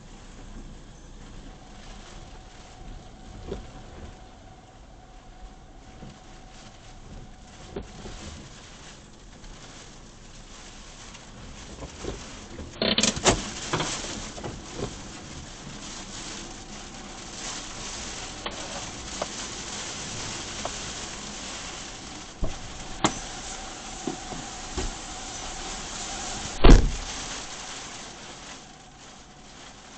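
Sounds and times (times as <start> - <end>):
heavy rain pattering: 0.0 - 29.9.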